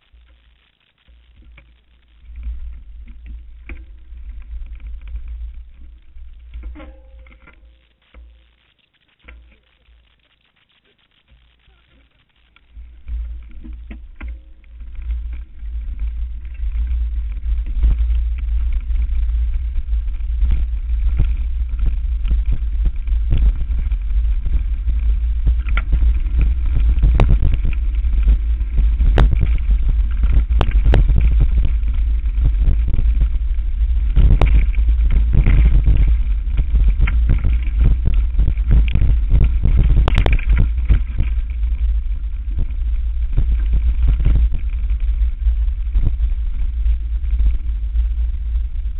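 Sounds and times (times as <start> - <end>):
bike rattling over bumps: 0.0 - 10.4, 11.3 - 48.9
wind rumble on microphone: 1.2 - 7.5, 12.6 - 48.9.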